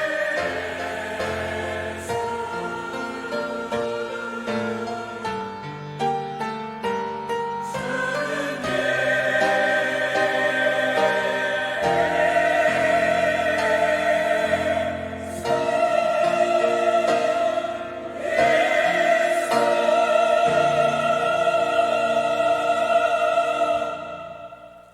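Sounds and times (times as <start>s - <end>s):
church choir singing a hymn: 0.0s - 24.9s.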